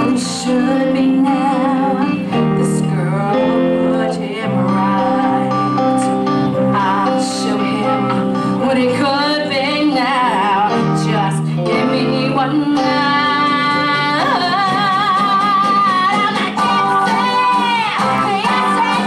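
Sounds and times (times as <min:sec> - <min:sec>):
live band playing: 0:00.0 - 0:19.0
woman singing: 0:00.0 - 0:19.0.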